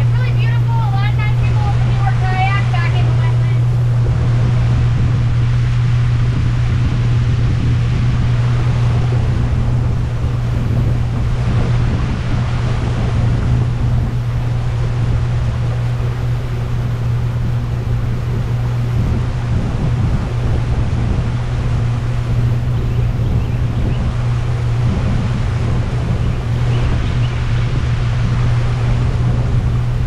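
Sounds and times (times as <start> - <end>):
boat motor humming: 0.0 - 30.0
rushing water: 0.0 - 30.0
wind: 0.0 - 30.0.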